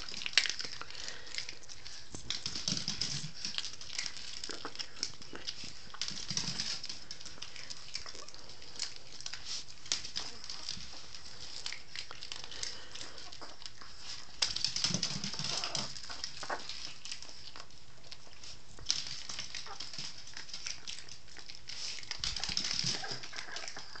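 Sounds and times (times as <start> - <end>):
dog crunching cereal: 0.0 - 24.0.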